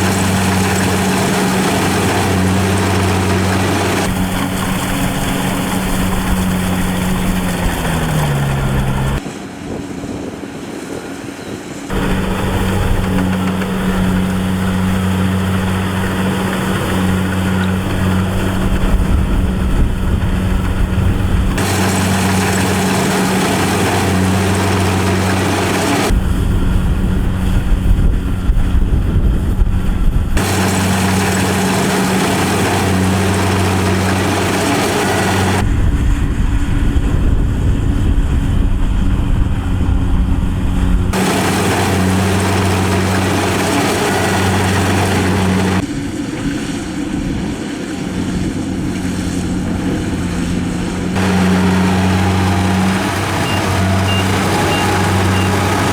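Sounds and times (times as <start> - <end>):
harvesting machine engine running: 0.0 - 9.2, 11.9 - 55.9.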